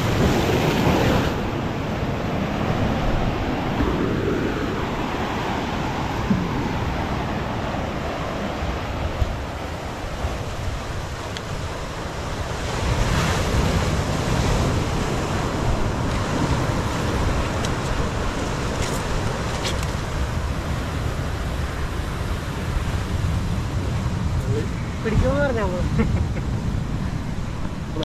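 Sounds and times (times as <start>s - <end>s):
surf rushing: 0.0s - 28.0s
wind buffeting microphone: 0.0s - 28.0s.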